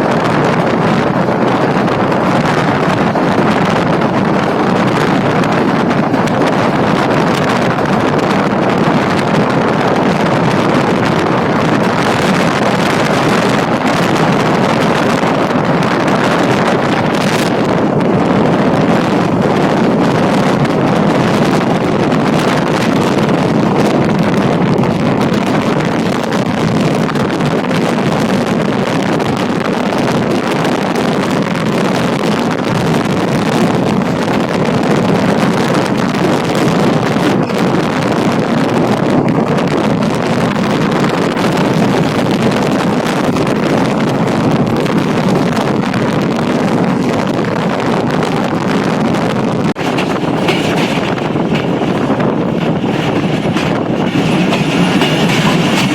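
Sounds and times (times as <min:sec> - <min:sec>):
moving train: 0:00.0 - 0:55.9
wind on microphone: 0:00.0 - 0:55.9.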